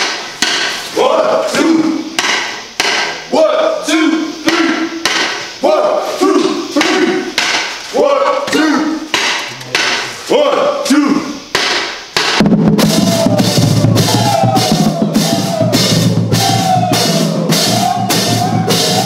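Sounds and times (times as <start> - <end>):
marching drumline cadence: 0.0 - 19.0.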